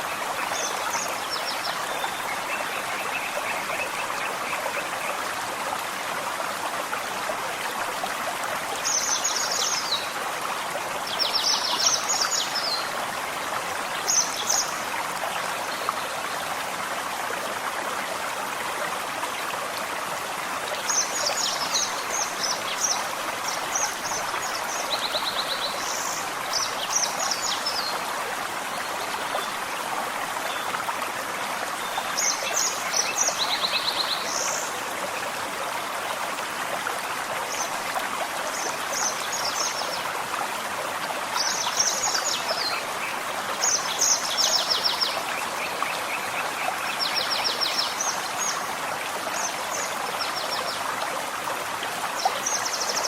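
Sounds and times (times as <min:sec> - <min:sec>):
forest stream running: 0:00.0 - 0:53.0.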